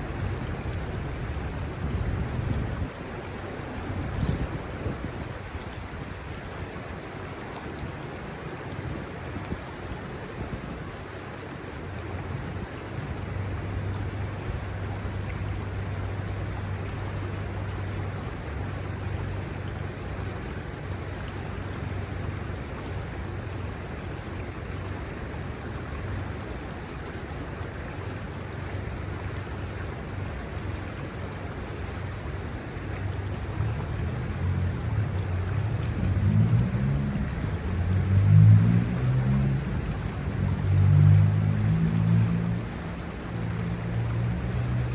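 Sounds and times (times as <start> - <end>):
river water running over stones: 0.0 - 44.9
road traffic rumble: 0.0 - 44.9.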